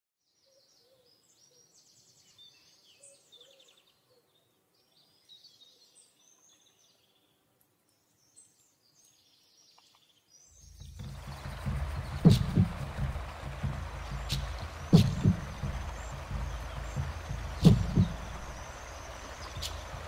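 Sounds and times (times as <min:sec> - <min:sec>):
faint birdsong chirps and trills: 0:00.2 - 0:20.0.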